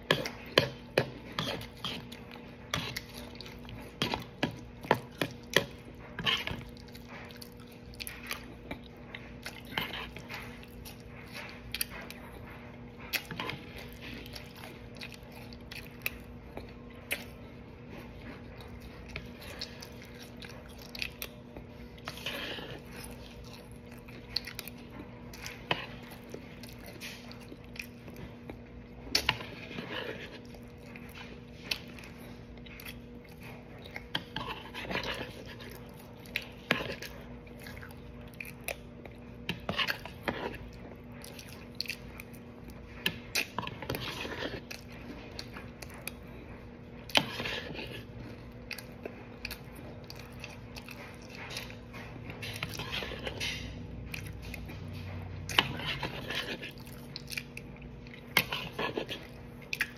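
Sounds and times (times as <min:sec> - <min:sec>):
person chewing crunchy cereal: 0:00.0 - 0:59.9.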